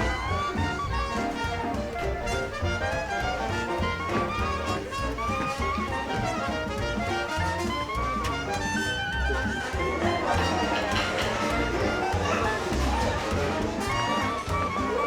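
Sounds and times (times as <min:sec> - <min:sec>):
upbeat jazzy music with brass: 0:00.0 - 0:15.0.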